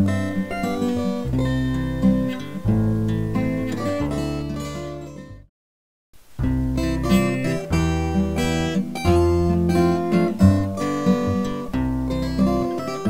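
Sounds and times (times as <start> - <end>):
strummed acoustic guitar music: 0.0 - 5.5, 6.4 - 13.0.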